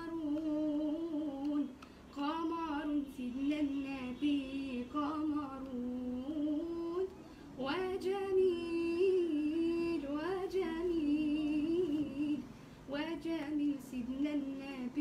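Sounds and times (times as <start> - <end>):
woman singing religious chant: 0.0 - 15.0.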